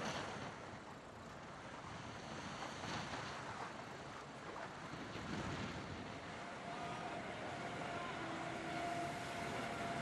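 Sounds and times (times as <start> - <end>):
choppy sea splashing: 0.0 - 10.0
wind on the microphone: 0.0 - 10.0.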